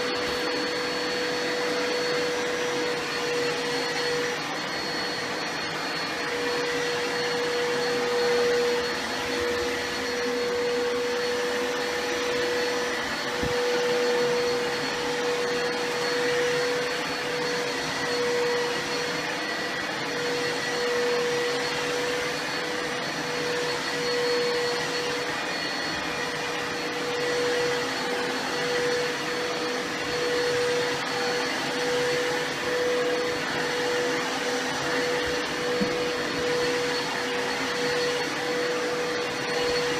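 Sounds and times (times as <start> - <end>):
vacuum cleaner motor running: 0.0 - 39.9.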